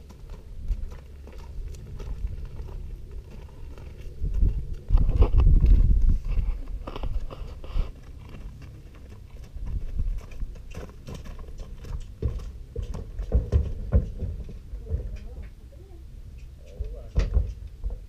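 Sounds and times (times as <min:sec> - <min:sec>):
hooves thudding on ramp: 0:00.0 - 0:15.6, 0:16.7 - 0:18.0
hooves clopping on gravel: 0:00.0 - 0:15.7.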